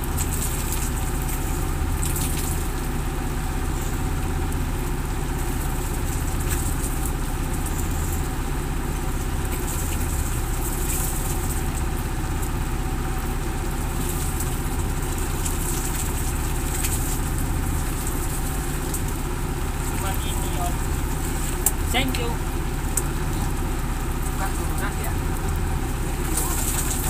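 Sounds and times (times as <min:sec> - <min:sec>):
boat engine idling: 0:00.0 - 0:27.0.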